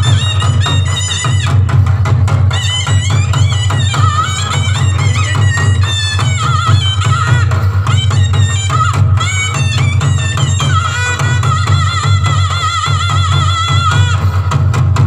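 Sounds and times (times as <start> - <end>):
heavy drumming: 0.0 - 15.0
reedy melody: 0.0 - 15.0.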